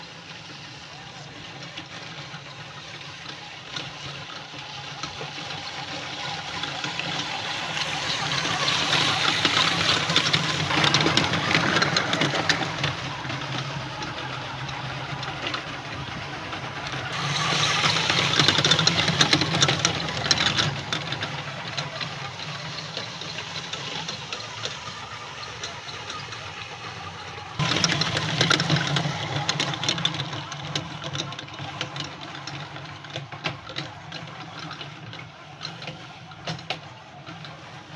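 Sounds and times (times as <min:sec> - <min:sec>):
toy truck electric motor whining: 0:00.0 - 0:37.9.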